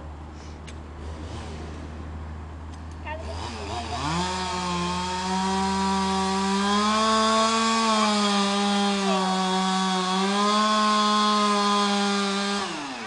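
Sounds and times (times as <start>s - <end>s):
chainsaw cutting wood: 1.0s - 2.0s, 3.1s - 13.0s.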